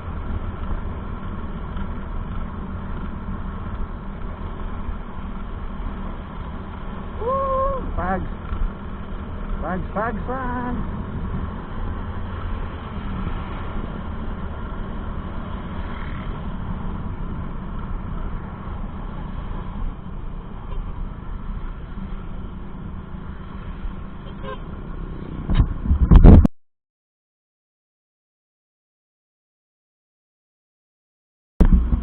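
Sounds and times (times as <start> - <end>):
vehicle engine running: 0.0 - 26.3, 31.6 - 32.0.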